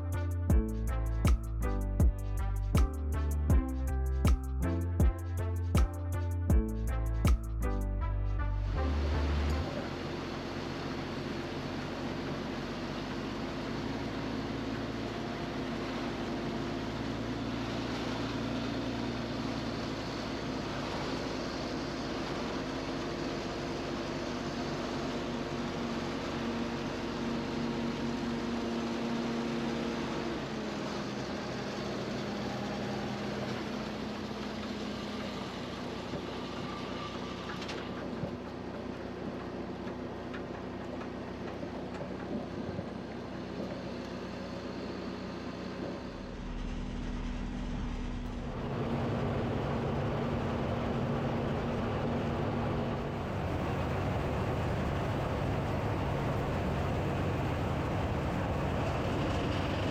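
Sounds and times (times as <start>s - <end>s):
heavy machinery engine running: 0.0s - 59.9s.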